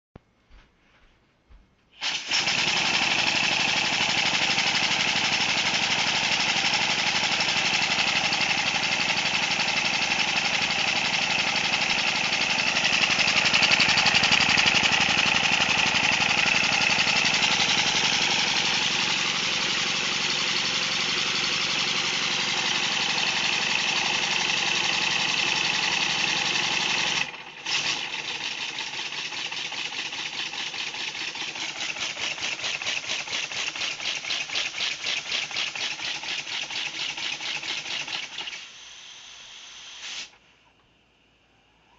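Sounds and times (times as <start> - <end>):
model steam engine running: 2.0 - 39.8.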